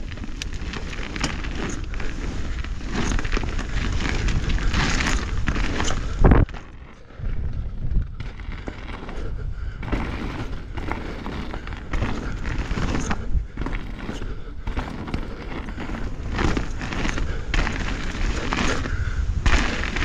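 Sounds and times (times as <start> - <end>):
bike tyres on dirt: 0.0 - 20.0
wind buffeting microphone: 0.0 - 20.0.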